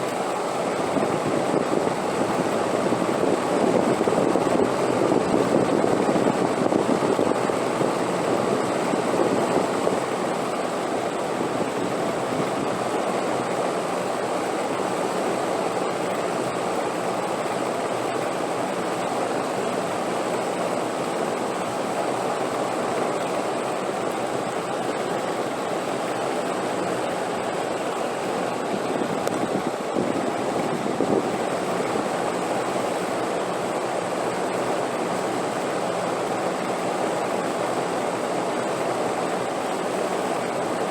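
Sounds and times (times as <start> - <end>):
steady wind rushing hiss: 0.0 - 40.9.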